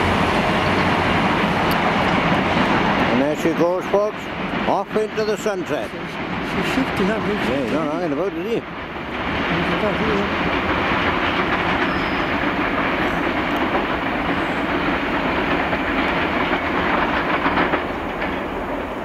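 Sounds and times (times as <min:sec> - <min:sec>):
wagon wheels rumbling on rails: 0:00.0 - 0:19.0.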